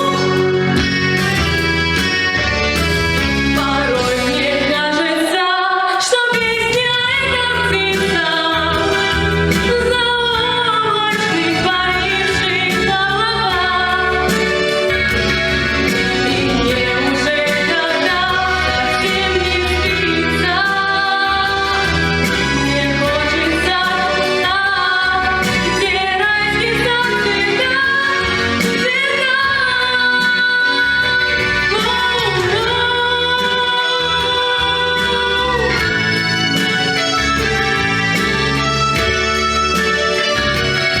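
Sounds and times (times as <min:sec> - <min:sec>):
woman singing: 0:00.0 - 0:01.7, 0:03.4 - 0:38.7
backing track music: 0:00.0 - 0:41.0.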